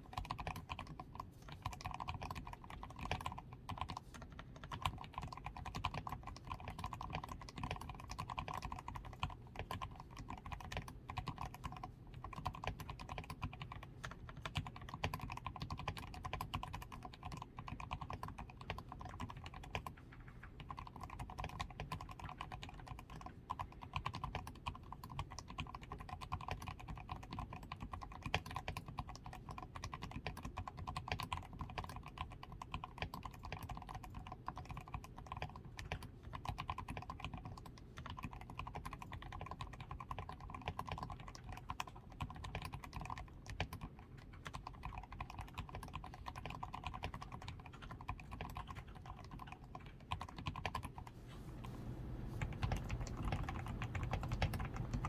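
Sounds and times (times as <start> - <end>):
mechanical keyboard typing: 0.0 - 51.1, 52.1 - 55.0.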